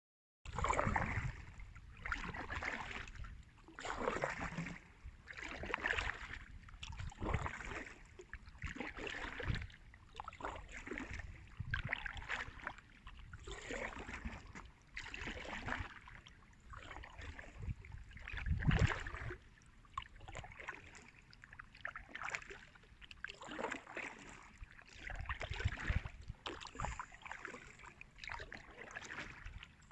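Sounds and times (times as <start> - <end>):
paddle swishing through water: 0.5 - 29.9.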